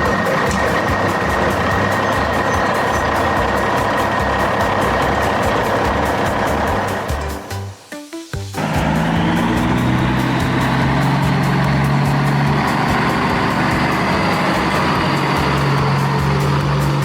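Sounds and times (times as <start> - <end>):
farm machine engine running: 0.0 - 7.7, 8.6 - 17.0.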